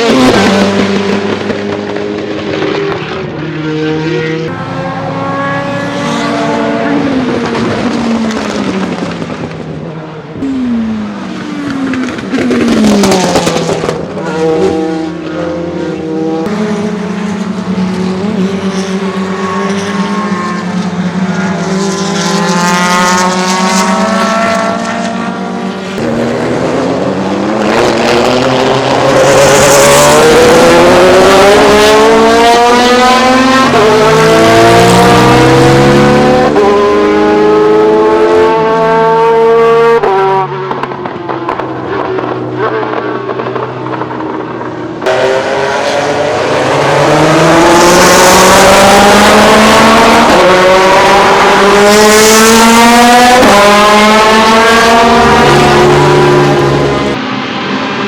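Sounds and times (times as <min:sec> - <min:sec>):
race car accelerating with upshifts: 0:00.0 - 0:58.0.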